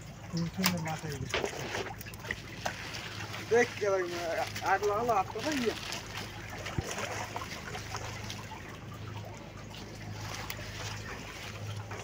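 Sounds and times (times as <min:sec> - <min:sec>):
steady low hum: 0:00.0 - 0:12.0
fishing net rustling: 0:00.4 - 0:12.0.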